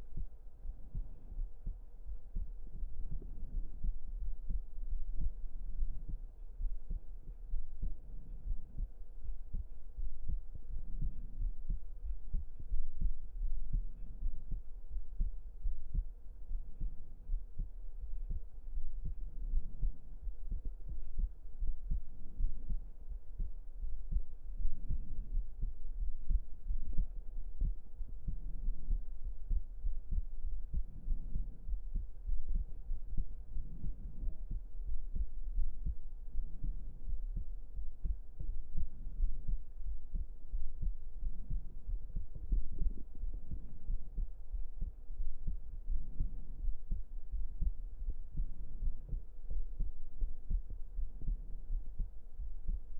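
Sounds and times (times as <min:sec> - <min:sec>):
heartbeat: 0:00.0 - 0:52.9
low rumble: 0:00.0 - 0:52.9.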